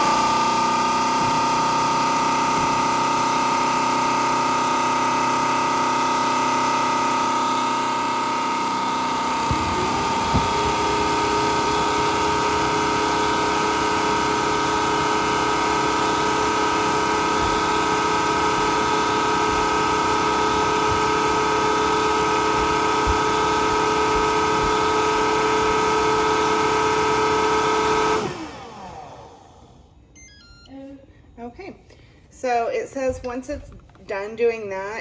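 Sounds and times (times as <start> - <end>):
brush roll and water whir: 0.0 - 29.2
vacuum motor whine: 0.0 - 30.8.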